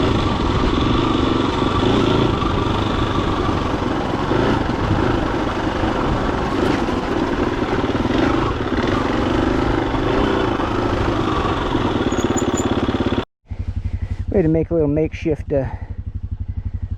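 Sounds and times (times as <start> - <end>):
dirt bike engine running: 0.0 - 16.9.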